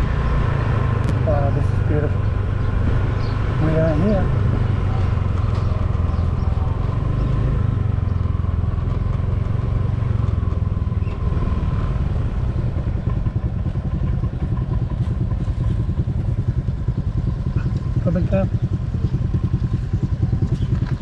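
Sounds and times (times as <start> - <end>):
motor scooter engine running: 0.3 - 21.0.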